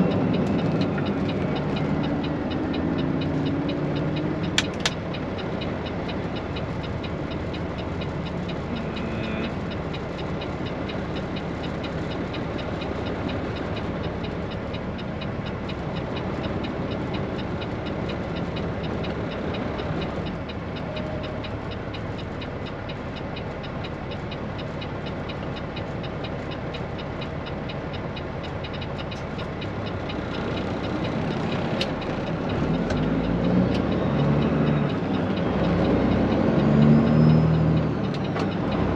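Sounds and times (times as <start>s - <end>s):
road noise: 0.0s - 38.9s
semi truck engine and exhaust: 0.0s - 38.9s.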